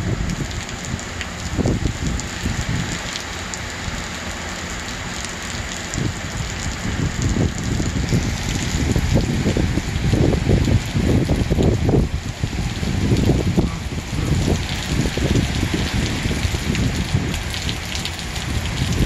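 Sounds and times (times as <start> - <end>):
heavy rain falling on grass: 0.0 - 19.0
low rumbling: 0.0 - 19.0.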